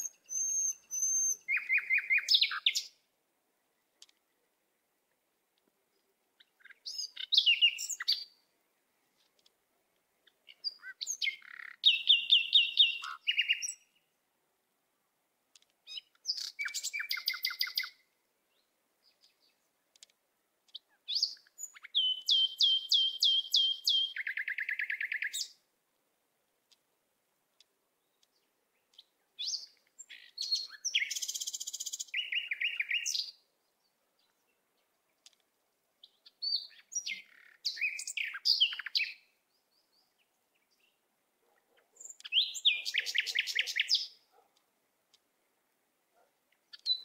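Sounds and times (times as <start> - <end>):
songbird chirps and trills: 0.0 - 47.0.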